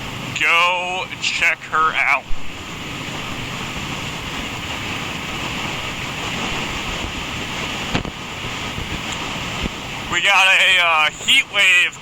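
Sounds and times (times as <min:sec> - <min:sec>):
road noise: 0:00.0 - 0:12.0
wind rushing over microphone: 0:01.8 - 0:12.0.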